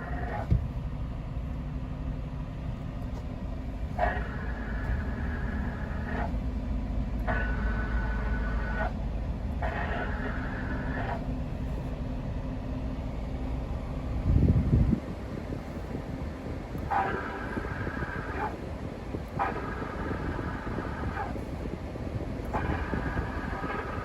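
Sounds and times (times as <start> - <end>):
van engine rumbling: 0.0 - 24.0.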